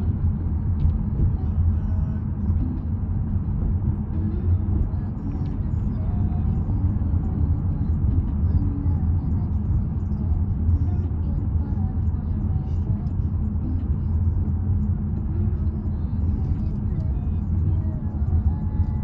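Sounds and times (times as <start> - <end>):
road rumble inside car: 0.0 - 19.0.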